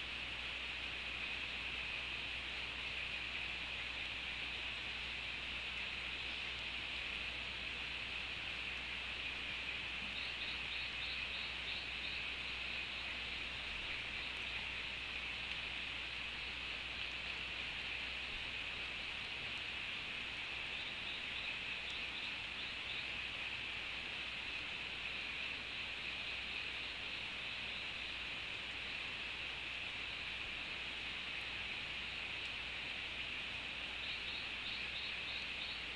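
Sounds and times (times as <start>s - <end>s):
wet forest ambience hiss: 0.0s - 35.9s.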